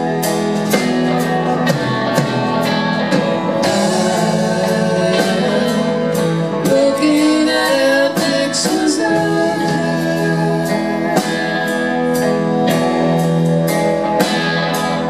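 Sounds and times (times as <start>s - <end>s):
drum kit: 0.0s - 15.0s
electric guitars: 0.0s - 15.0s
person singing: 0.0s - 15.0s
piano: 0.0s - 15.0s.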